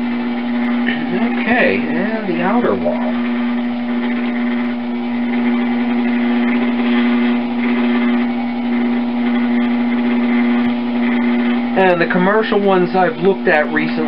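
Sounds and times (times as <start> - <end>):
potter's wheel motor humming: 0.0 - 14.0.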